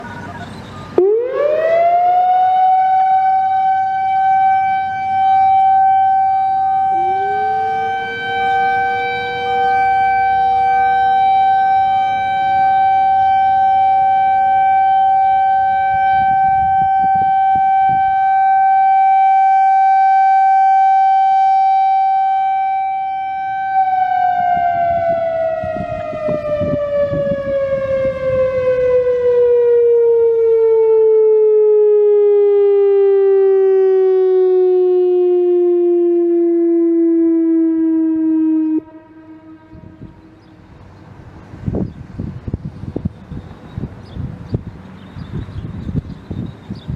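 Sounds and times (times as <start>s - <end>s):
outdoor warning siren: 0.9s - 46.9s.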